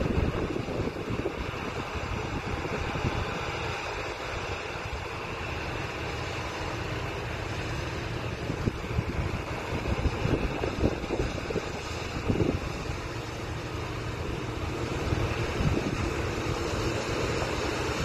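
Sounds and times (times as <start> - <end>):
low machinery rumble: 0.0 - 18.0
wind buffeting microphone: 0.0 - 18.0.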